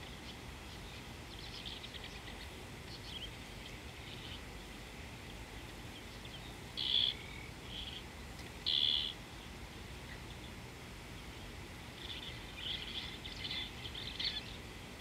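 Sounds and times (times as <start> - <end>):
birds chirping: 0.0 - 15.0
low outdoor hum: 0.0 - 15.0.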